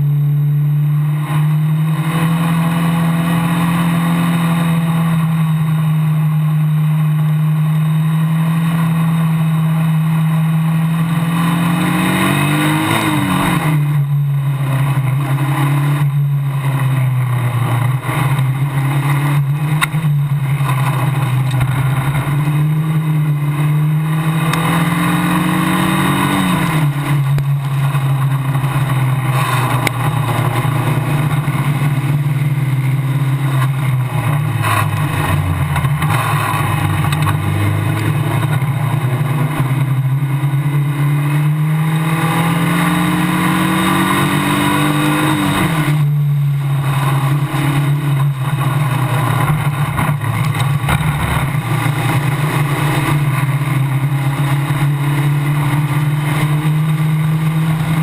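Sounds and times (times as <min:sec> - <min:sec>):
race car engine: 0:00.0 - 0:58.0.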